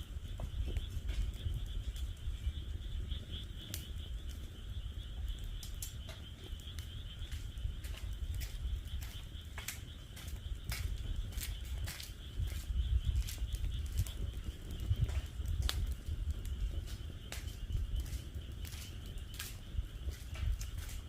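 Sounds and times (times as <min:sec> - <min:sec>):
wood fire crackling and popping: 0:00.0 - 0:21.0
frogs calling: 0:00.1 - 0:21.0.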